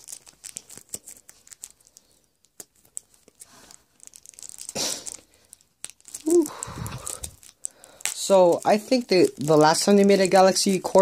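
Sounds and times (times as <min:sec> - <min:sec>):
plastic film crackling and tearing: 0:00.0 - 0:11.0.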